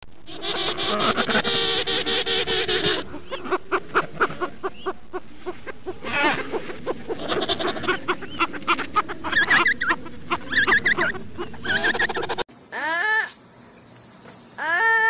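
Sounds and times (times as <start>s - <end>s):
higher warbling notes: 0.2s - 12.4s
penguins calling: 0.2s - 12.4s.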